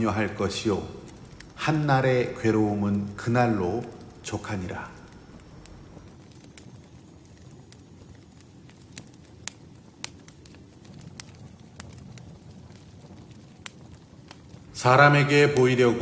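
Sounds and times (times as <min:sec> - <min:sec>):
sharp pops of burning wood: 0:00.0 - 0:15.8
campfire crackling: 0:00.0 - 0:16.0.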